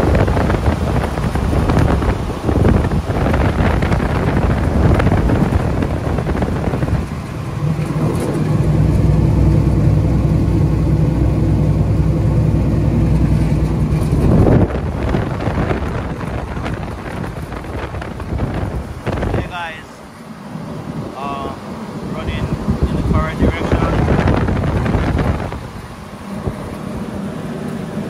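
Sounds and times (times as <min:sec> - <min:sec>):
low machine hum: 0:00.0 - 0:28.0
wind buffeting microphone: 0:00.0 - 0:28.0.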